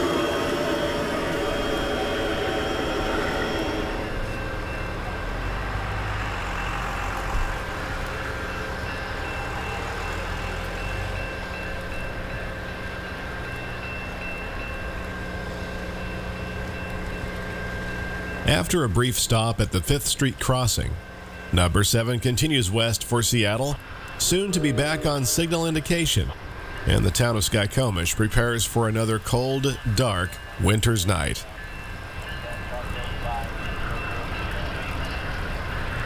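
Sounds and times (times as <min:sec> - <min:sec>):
train rolling over rails: 0:00.0 - 0:36.0.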